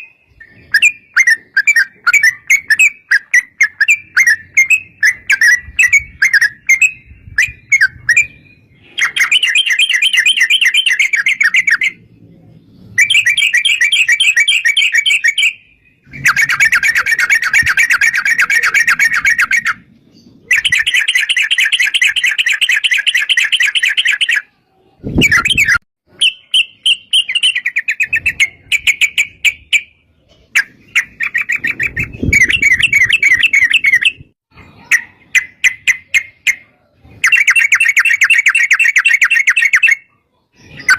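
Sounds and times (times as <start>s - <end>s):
bird song rapid chattering notes: 0.0s - 34.4s, 35.2s - 40.9s.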